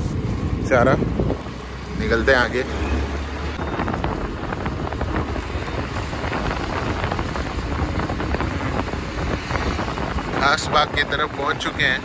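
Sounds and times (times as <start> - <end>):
tyres on road: 0.0 - 12.0
wind buffeting microphone: 0.0 - 12.0.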